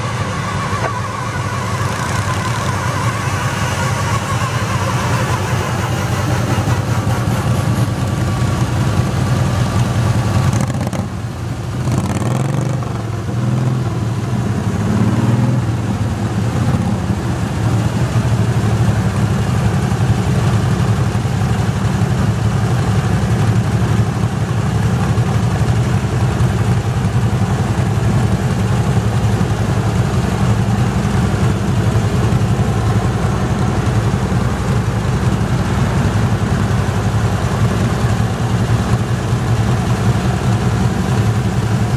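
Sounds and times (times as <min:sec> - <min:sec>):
garden tractor engine running: 0:00.0 - 0:14.6, 0:15.8 - 0:41.9.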